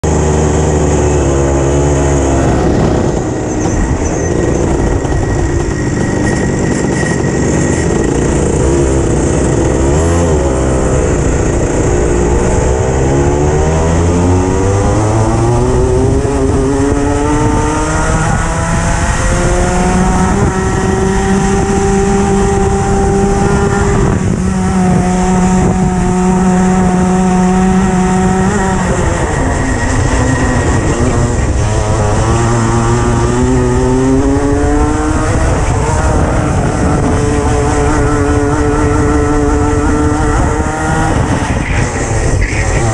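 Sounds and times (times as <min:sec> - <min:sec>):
go-kart engine revving: 0:00.0 - 0:42.9.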